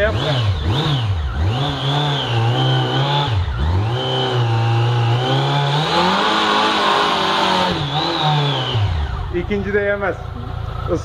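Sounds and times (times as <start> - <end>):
motorcycle engine revving high: 0.0 - 11.0.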